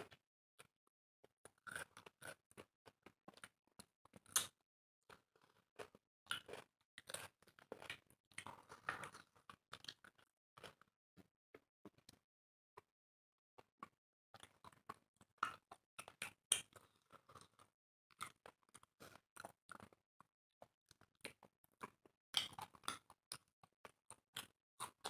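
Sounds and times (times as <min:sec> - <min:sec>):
people chewing and crunching food: 0:00.0 - 0:12.2, 0:13.6 - 0:25.0.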